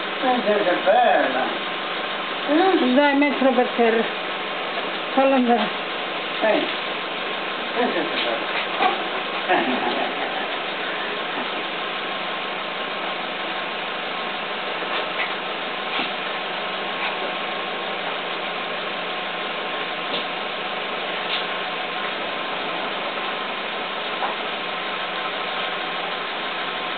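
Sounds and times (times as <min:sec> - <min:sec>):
mechanical hum with hiss: 0:00.0 - 0:26.9.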